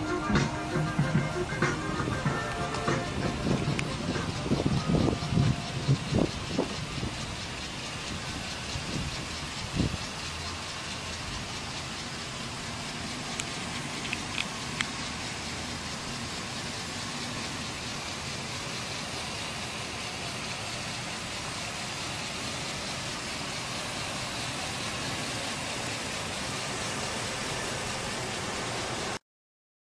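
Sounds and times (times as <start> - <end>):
engine idling: 0.0 - 29.2.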